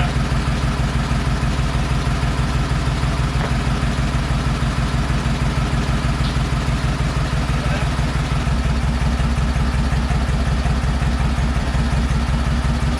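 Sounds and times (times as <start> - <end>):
engine idling: 0.0 - 12.9.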